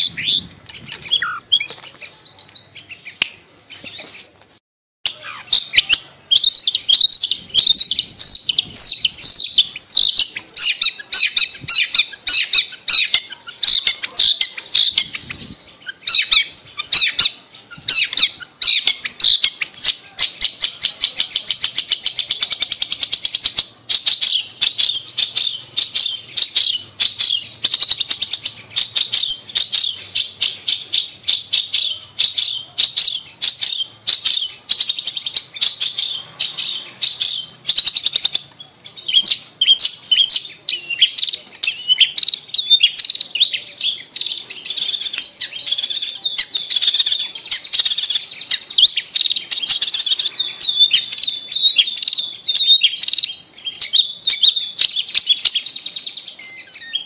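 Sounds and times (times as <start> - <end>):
bird singing chirps and trills: 0.0 - 4.3, 5.1 - 57.0.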